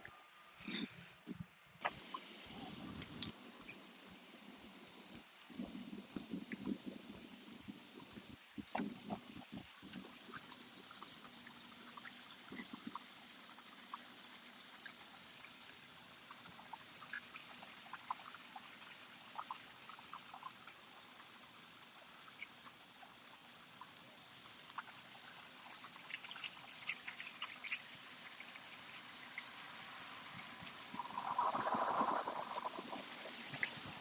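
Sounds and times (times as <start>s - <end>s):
small stream trickling: 0.0s - 34.0s.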